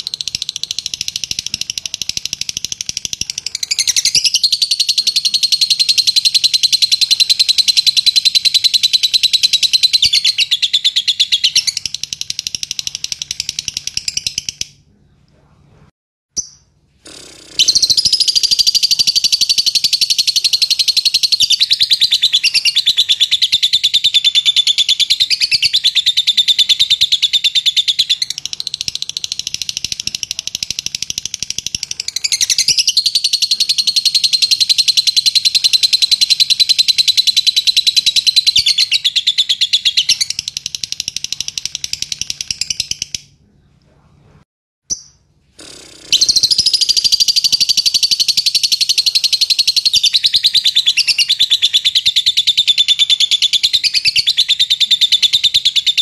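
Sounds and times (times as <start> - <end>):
lovebird chattering trill: 0.0 - 14.7, 16.4 - 43.2, 44.9 - 56.0.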